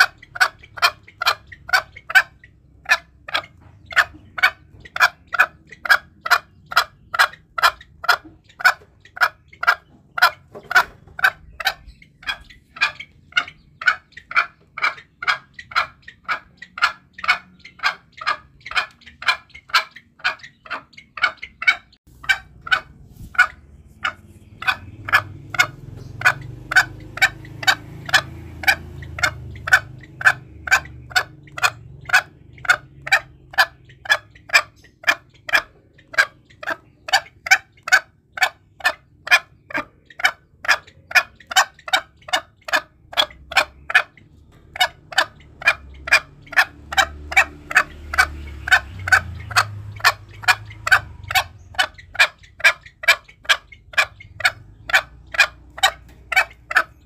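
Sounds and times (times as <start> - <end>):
junglefowl calling: 0.0 - 57.0.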